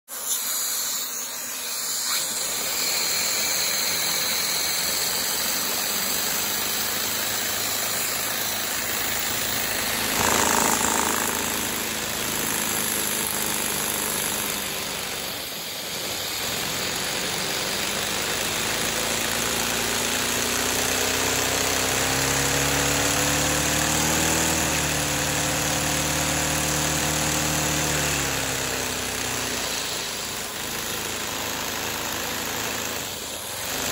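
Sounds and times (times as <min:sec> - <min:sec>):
small engine whirring: 0:00.1 - 0:33.9.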